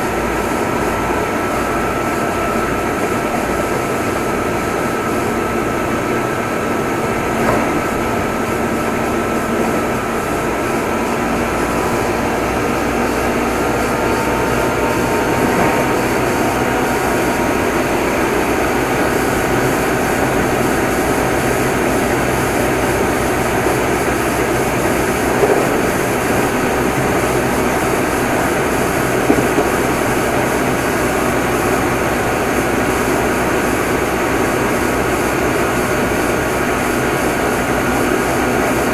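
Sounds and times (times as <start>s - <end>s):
train motors and wheels on rails: 0.0s - 38.9s.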